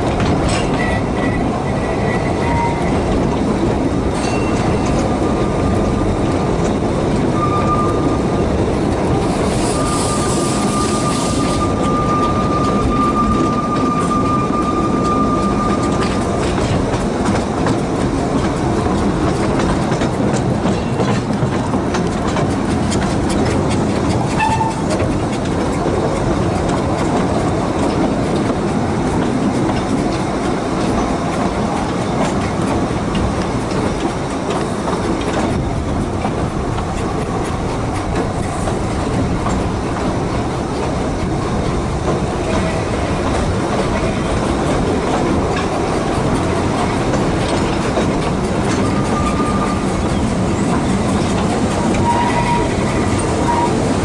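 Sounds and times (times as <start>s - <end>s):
wheels clicking over rail joints: 0.0s - 9.6s, 11.6s - 54.0s
steam train rumble: 0.0s - 54.0s.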